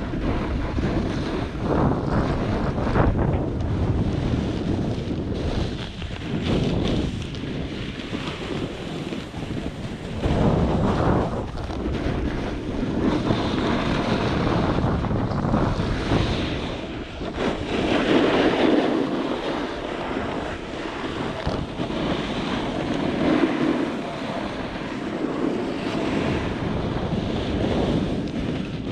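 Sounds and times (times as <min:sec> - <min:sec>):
snowboard scraping over snow: 0:00.0 - 0:28.9
wind rushing over microphone: 0:00.0 - 0:28.9.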